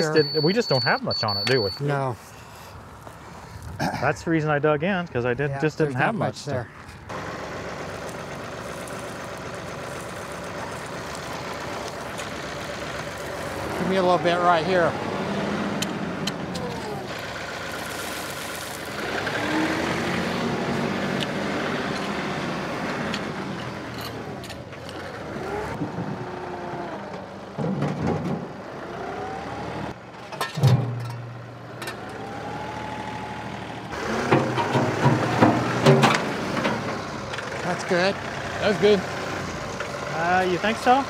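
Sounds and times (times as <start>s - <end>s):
tractor diesel engine: 0.0s - 2.6s, 5.2s - 41.0s.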